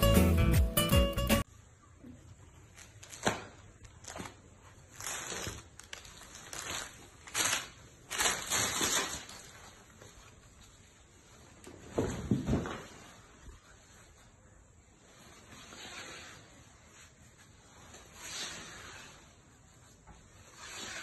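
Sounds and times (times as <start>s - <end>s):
silk fabric rustling: 2.5s - 21.0s.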